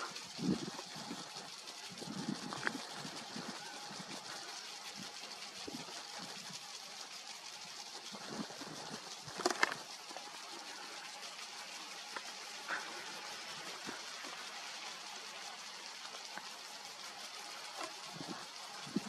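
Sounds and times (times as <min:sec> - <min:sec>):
open field ambient hiss: 0:00.0 - 0:19.0.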